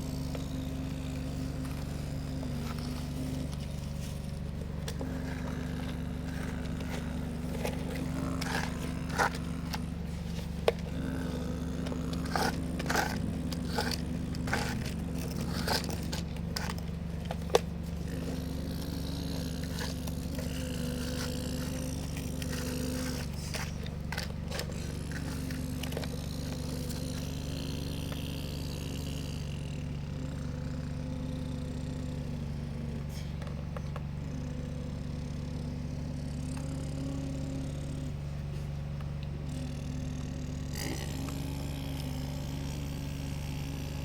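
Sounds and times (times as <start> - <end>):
excavator engine humming: 0.0 - 44.0.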